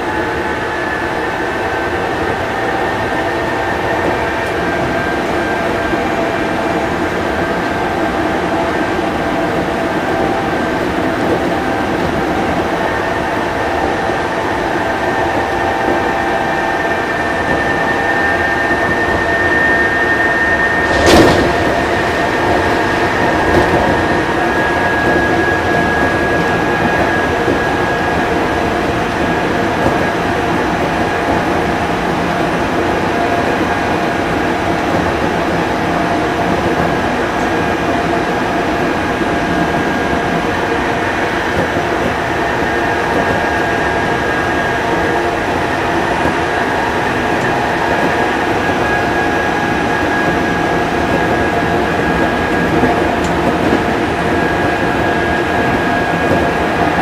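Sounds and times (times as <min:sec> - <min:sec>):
electric train rumbling: 0:00.0 - 0:57.0
high steady whine: 0:00.0 - 0:57.0.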